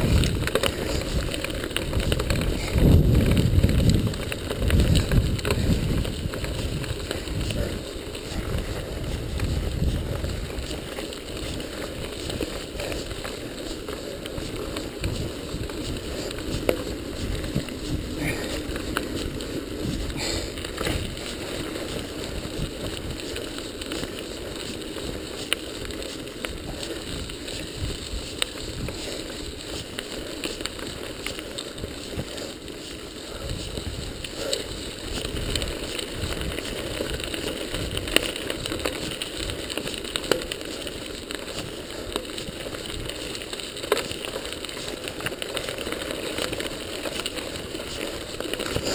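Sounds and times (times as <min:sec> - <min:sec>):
bike rattling: 0:00.0 - 0:48.9
wind and tyres on loose stone: 0:00.0 - 0:48.9.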